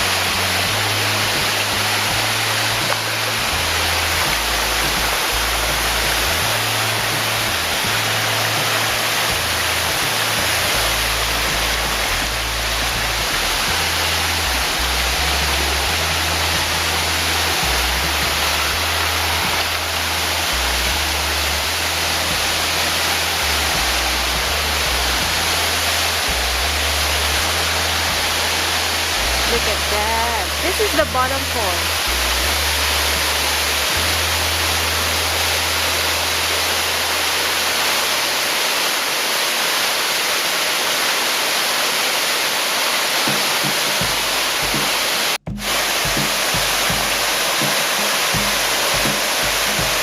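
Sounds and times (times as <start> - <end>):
background music with bass line: 0.0 - 37.9, 43.3 - 50.0
waterfall rushing: 0.0 - 50.0.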